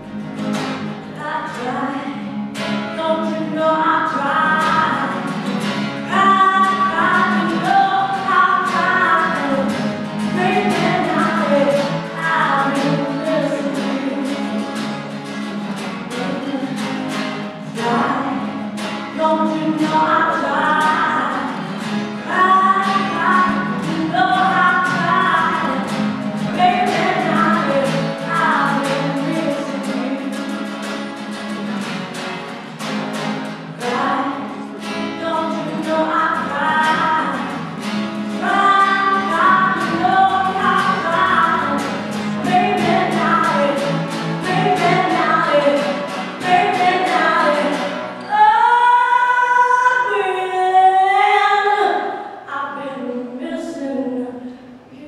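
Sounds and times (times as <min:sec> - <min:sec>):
strummed acoustic guitars: 0:00.0 - 0:55.0
woman singing: 0:01.0 - 0:14.9, 0:16.1 - 0:30.8, 0:33.7 - 0:55.0.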